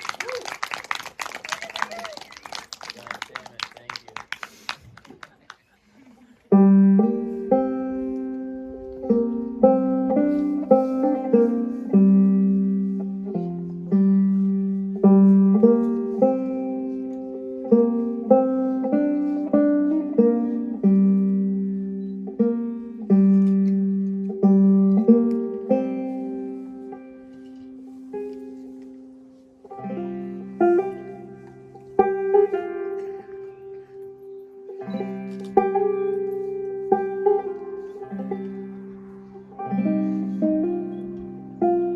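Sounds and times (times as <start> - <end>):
banjo playing slow tune: 6.1 - 41.9.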